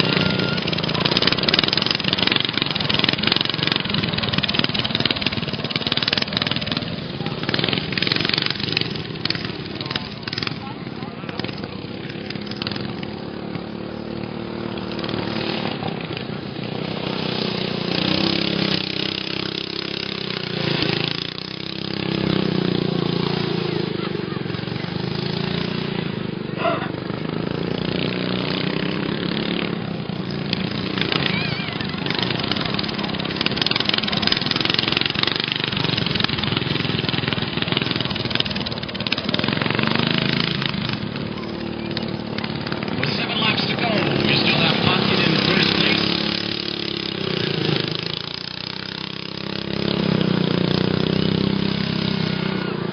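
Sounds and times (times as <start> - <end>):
racing lawn mower engines: 0.0 - 52.9.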